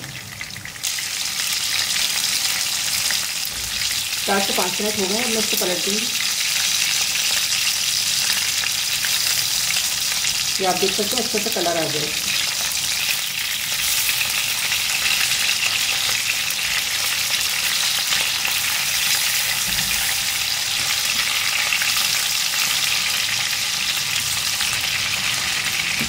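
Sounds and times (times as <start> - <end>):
meat sizzling in oil: 0.0 - 26.0.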